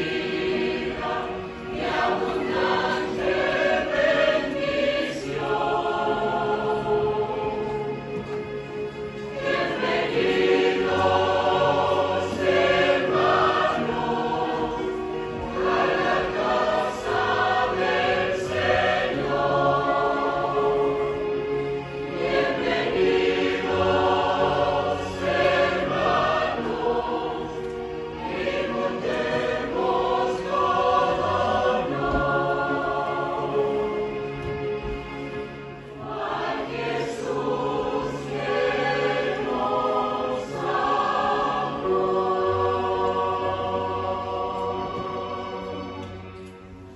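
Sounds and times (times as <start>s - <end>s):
mixed choir singing: 0.0s - 46.9s.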